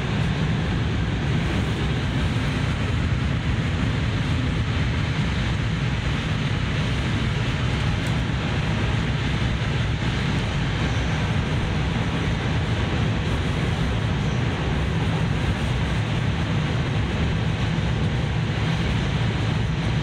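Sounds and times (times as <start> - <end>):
train interior rumble and hiss: 0.0 - 20.0.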